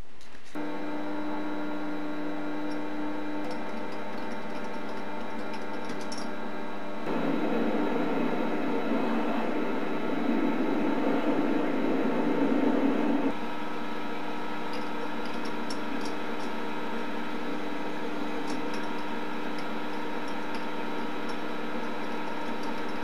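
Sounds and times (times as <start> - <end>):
lathe whining and humming: 0.6 - 23.0.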